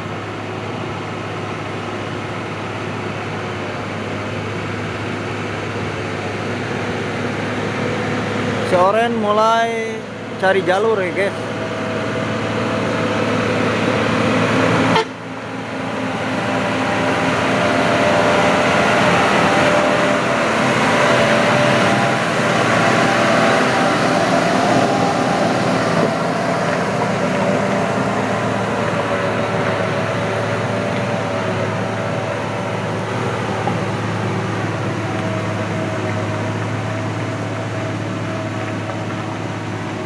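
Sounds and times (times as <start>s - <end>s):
truck diesel engine labouring uphill: 0.0s - 40.0s.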